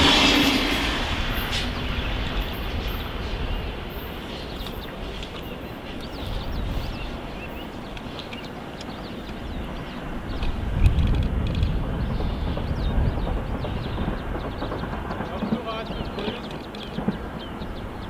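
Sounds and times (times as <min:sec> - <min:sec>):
train rumble: 0:00.0 - 0:18.0
small birds chirping: 0:01.2 - 0:18.0.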